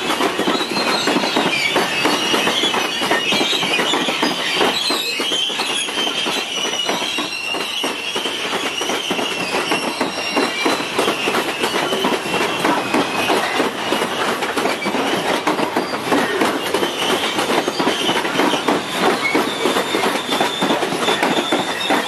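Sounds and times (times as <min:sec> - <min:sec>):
high wheel squeal: 0:00.0 - 0:22.0
train wheels clattering over rail joints: 0:00.0 - 0:22.0.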